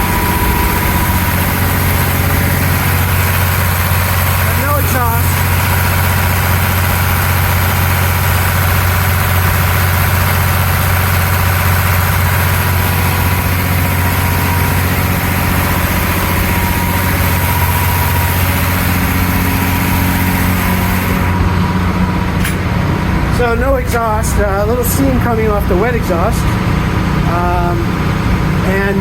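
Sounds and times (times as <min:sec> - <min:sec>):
marine diesel engine running: 0:00.0 - 0:29.0.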